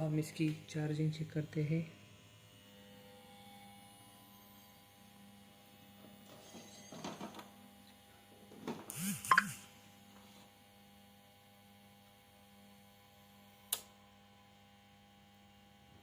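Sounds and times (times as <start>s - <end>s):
inverter electrical hum: 0.0s - 16.0s.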